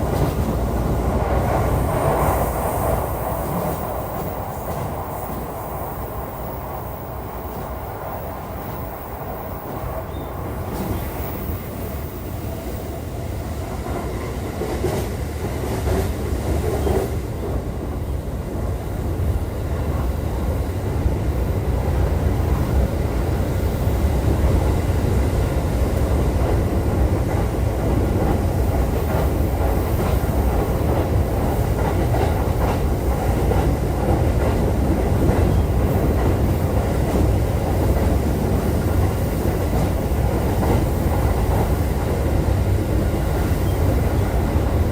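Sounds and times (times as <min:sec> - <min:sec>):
clickety-clack over rail joints: 0:00.0 - 0:11.9, 0:13.6 - 0:44.9
train wheels rumbling on rail: 0:00.0 - 0:44.9.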